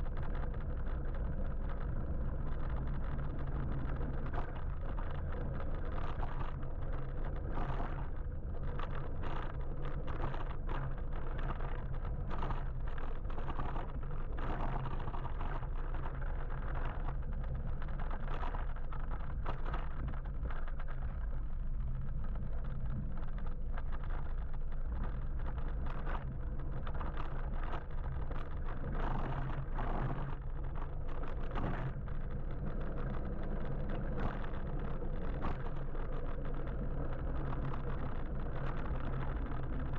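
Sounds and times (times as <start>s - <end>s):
road and wind rumble: 0.0s - 39.9s
small knocks and clicks: 0.0s - 39.9s.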